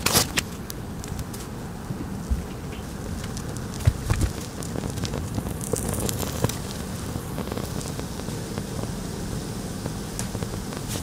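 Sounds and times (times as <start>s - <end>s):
matches burning with hiss and crackles: 0.0s - 11.0s.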